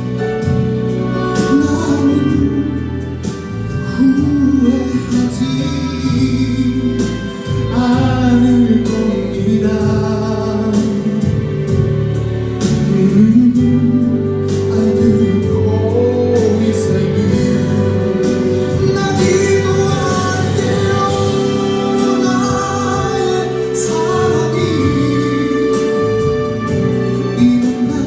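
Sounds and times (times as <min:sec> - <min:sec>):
instrumental accompaniment: 0:00.0 - 0:28.0
person singing: 0:00.0 - 0:28.0.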